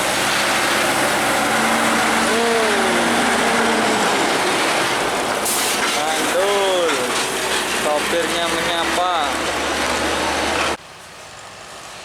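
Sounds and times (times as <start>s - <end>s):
heavy truck passing: 0.0s - 12.0s.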